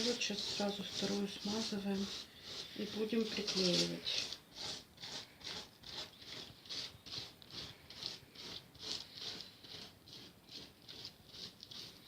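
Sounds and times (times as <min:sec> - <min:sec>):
paintbrush swishing on foam: 0:00.0 - 0:12.0.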